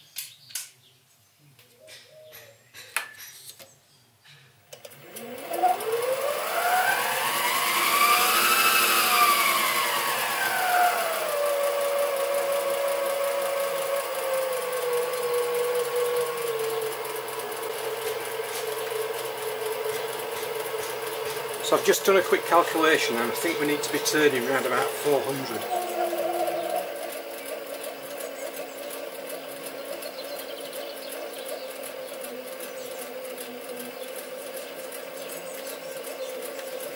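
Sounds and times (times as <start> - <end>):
lathe motor whine: 4.8 - 36.9.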